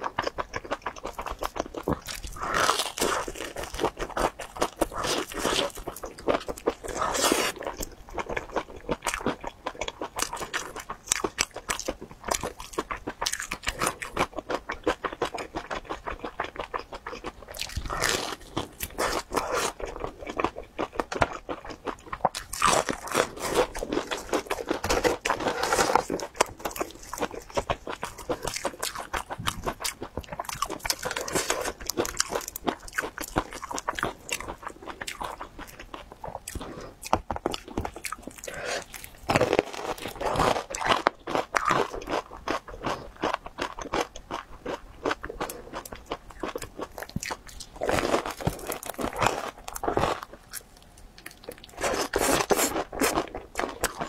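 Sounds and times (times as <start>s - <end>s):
crunching and chewing fried food: 0.0s - 54.0s.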